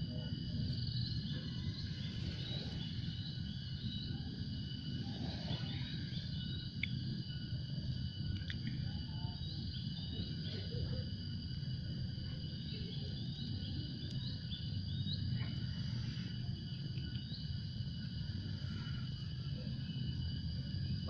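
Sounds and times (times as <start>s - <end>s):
continuous low rumble: 0.0s - 21.0s
high-pitched insect drone: 0.0s - 21.0s.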